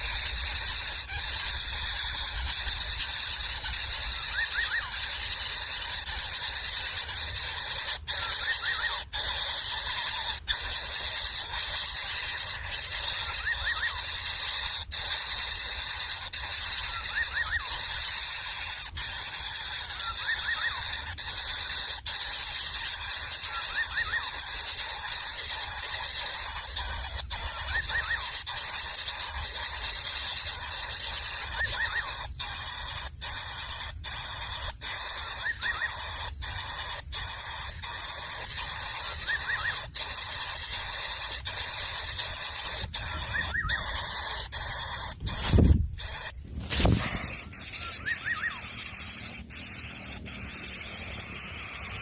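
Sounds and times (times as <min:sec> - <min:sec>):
high-pitched outdoor hiss: 0:00.0 - 0:52.0
small bird chirping: 0:00.0 - 0:52.0.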